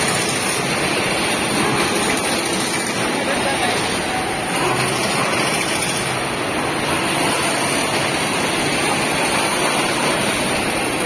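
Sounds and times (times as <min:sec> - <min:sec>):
factory machinery and ventilation din: 0:00.0 - 0:11.0.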